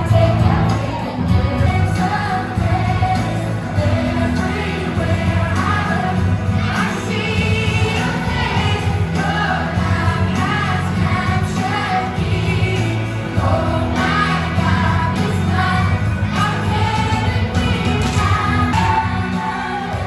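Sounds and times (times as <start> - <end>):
group of voices singing: 0.0 - 20.0
musical accompaniment with bass: 0.0 - 20.0.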